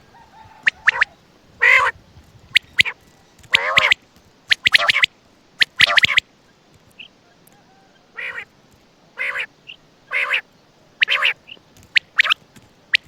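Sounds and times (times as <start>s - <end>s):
quail calling: 0.0s - 6.3s, 7.0s - 8.5s, 9.2s - 13.0s.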